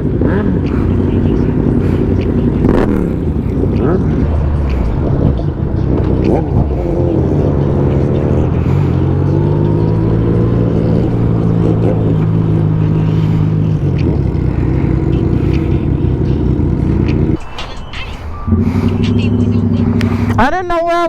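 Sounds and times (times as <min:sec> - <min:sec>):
motorcycle engine running: 0:00.0 - 0:17.4, 0:18.5 - 0:20.4.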